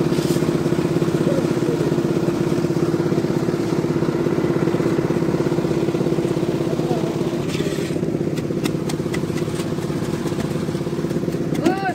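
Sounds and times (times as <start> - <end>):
concrete mixer engine chugging: 0.0 - 11.9.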